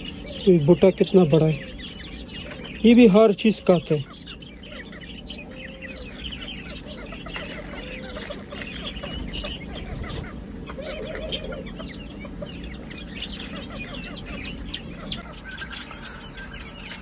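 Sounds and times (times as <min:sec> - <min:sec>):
chickens clucking and cheeping: 0:00.0 - 0:17.0.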